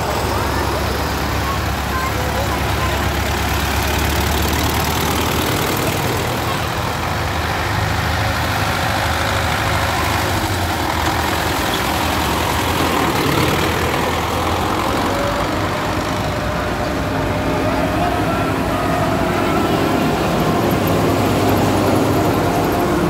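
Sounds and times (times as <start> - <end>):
tractor diesel engines passing: 0.0 - 23.0.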